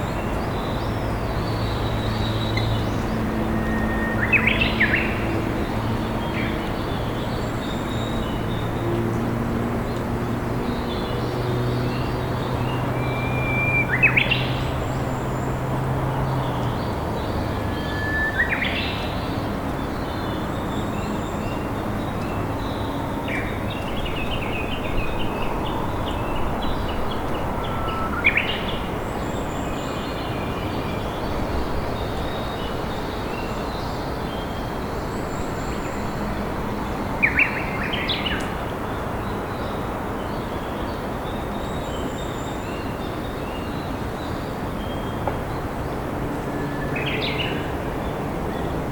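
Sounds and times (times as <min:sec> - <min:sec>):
warbler singing: 0:00.0 - 0:48.9.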